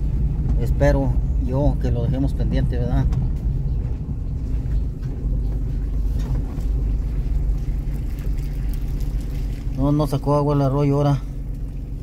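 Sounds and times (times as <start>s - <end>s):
vehicle driving on wet gravel: 0.0s - 12.0s.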